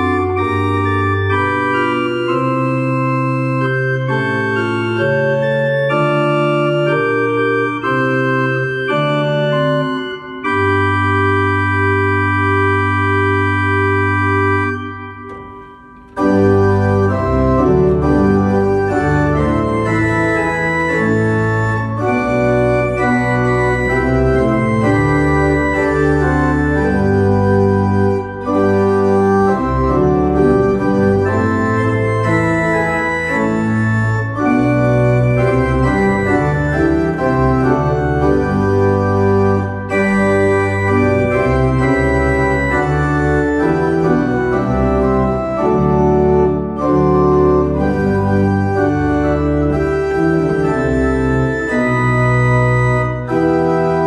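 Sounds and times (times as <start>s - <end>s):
pipe organ playing a hymn: 0.0s - 54.0s.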